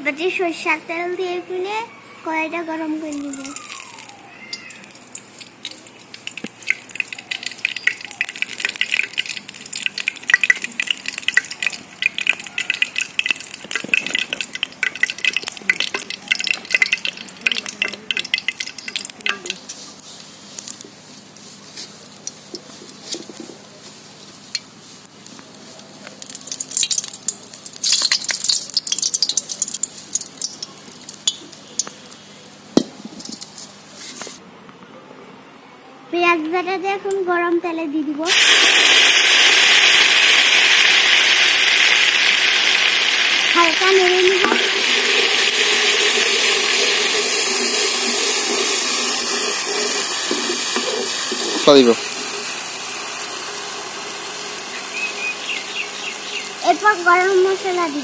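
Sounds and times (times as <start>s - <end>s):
oil sizzling and crackling: 2.7s - 34.4s, 38.3s - 58.0s.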